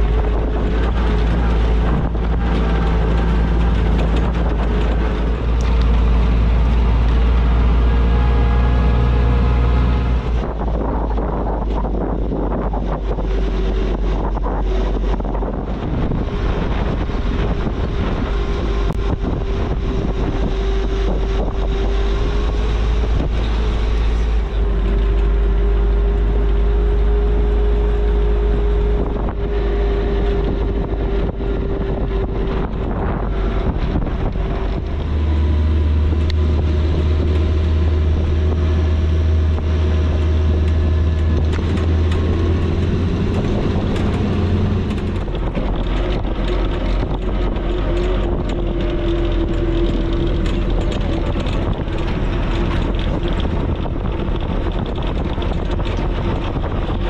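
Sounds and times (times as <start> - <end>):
jeep engine running: 0.0 - 57.0
wind buffeting microphone: 0.0 - 57.0.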